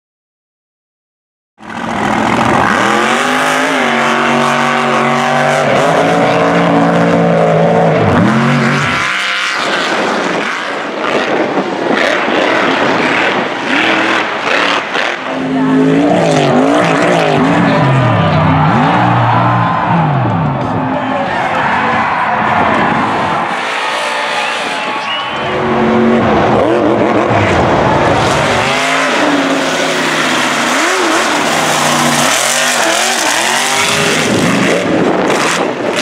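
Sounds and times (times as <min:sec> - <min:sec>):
truck engines revving: 0:01.6 - 0:36.0.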